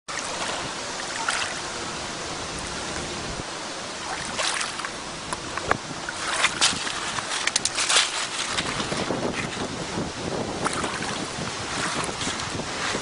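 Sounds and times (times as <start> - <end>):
steady rushing noise: 0.1 - 13.0.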